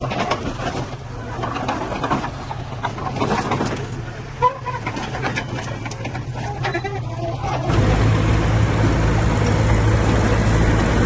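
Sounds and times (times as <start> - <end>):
diesel engine running: 0.0 - 11.0
machinery clanks and knocks: 0.0 - 11.0.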